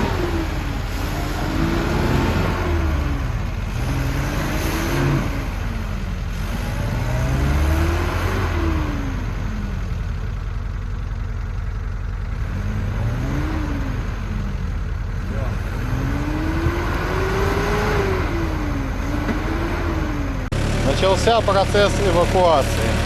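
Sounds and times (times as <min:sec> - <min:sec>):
suv engine revving: 0:00.0 - 0:23.0.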